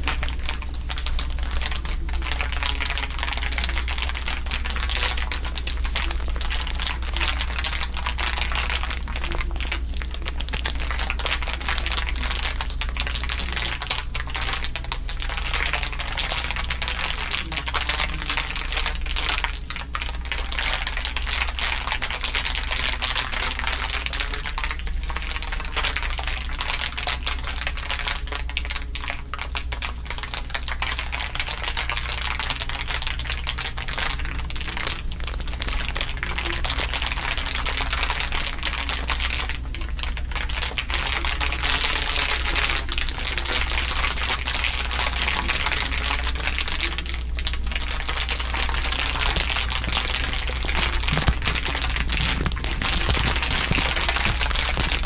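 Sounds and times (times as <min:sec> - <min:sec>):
steady low hum: 0:00.0 - 0:27.1, 0:31.3 - 0:55.0
crinkling crackle: 0:00.0 - 0:55.0.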